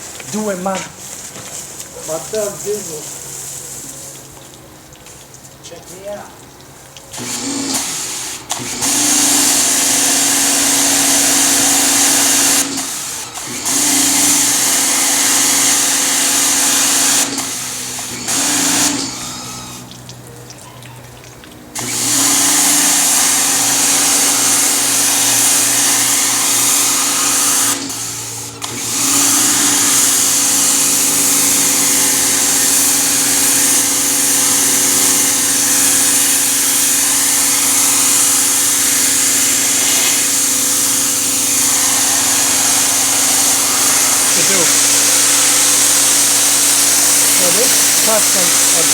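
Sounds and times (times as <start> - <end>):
pressure washer motor humming: 0.0 - 48.9
water jet hissing: 0.0 - 48.9.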